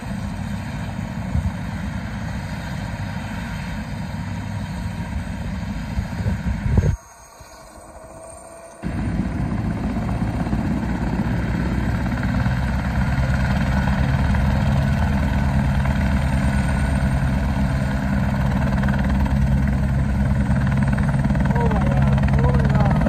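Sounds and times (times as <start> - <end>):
helicopter rotor chop: 0.0 - 23.0
turbine drone: 0.0 - 23.0.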